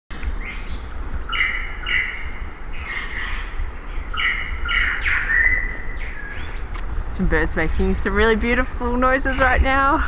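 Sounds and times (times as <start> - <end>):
birds singing: 0.1 - 10.0
steady low rumble: 0.1 - 10.0.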